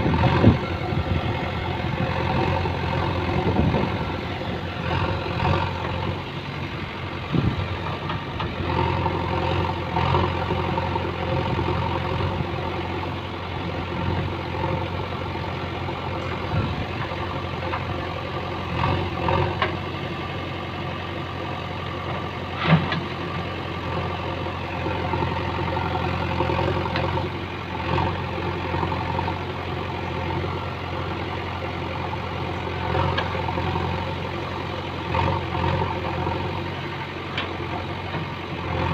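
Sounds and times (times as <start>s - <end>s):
backhoe digging and dumping soil: 0.0s - 38.9s
diesel engine running: 0.0s - 38.9s.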